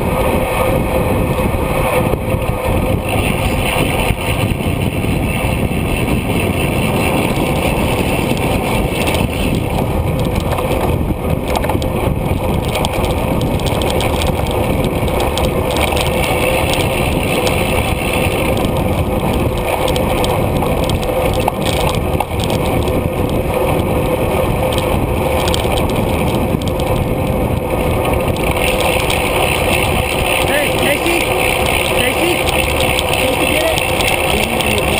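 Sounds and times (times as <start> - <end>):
road noise: 0.0 - 34.9
wind rushing: 0.0 - 34.9.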